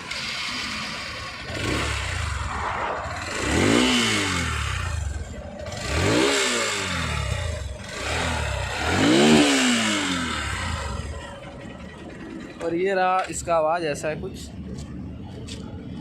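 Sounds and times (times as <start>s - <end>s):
motorcycle engine idling: 0.0s - 2.5s, 4.0s - 16.0s.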